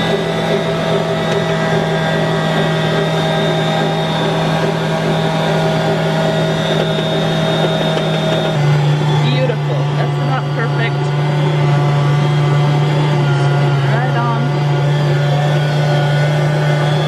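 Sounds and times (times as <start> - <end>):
electric mixer motor hum: 0.0 - 17.0.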